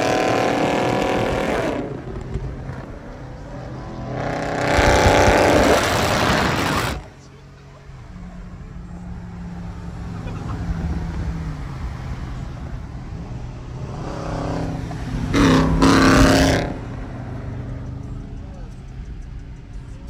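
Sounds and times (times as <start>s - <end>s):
car engines idling: 0.0s - 20.0s.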